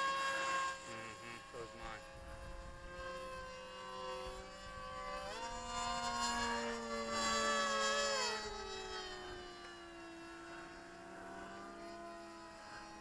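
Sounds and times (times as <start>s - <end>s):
model plane motor whining: 0.0s - 13.0s.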